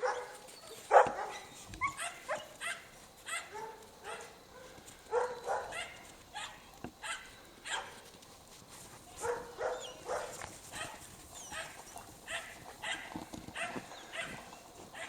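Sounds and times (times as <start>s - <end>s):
dogs barking: 0.0s - 8.0s, 9.2s - 15.0s.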